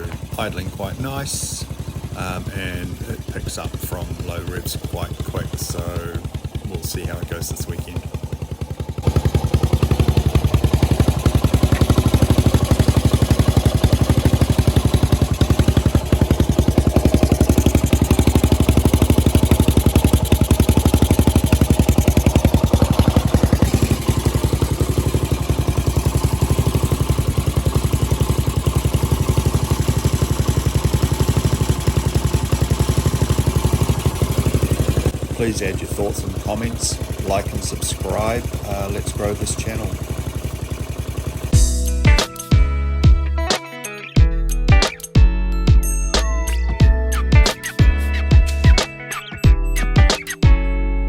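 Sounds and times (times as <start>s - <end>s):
motorcycle engine idling: 0.0s - 43.2s.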